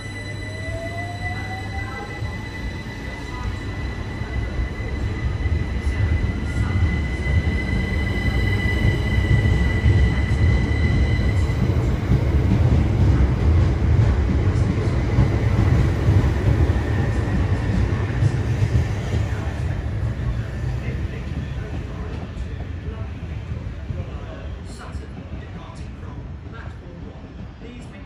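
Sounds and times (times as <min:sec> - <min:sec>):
electric train whine: 0:00.0 - 0:25.1
wheels rumbling on rail: 0:00.0 - 0:27.5.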